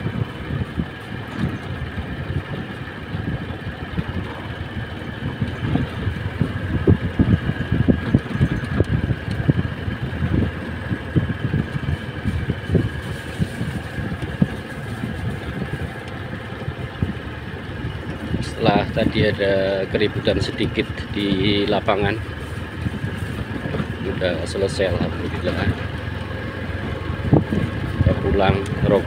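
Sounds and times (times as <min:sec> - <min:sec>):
motorcycle engine rumbling: 0:00.0 - 0:29.0.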